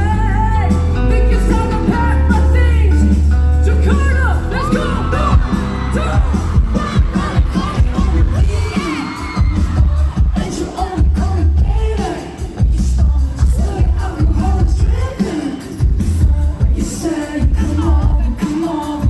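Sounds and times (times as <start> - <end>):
audience noise: 0.0 - 19.0
live pop band: 0.0 - 19.0
person singing: 0.0 - 19.0.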